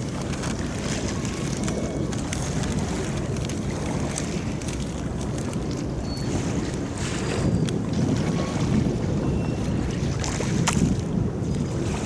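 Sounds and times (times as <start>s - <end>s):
water washing against shore: 0.0s - 12.0s
wind noise on microphone: 0.0s - 12.0s.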